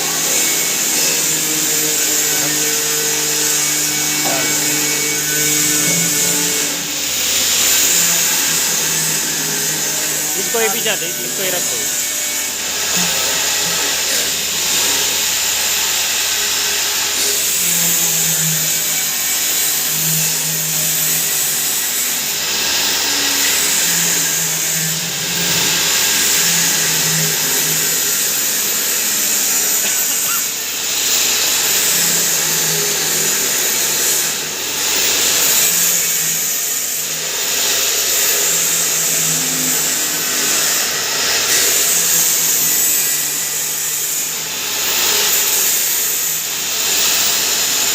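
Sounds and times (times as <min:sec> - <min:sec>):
grinding machine whirring: 0:00.0 - 0:47.9.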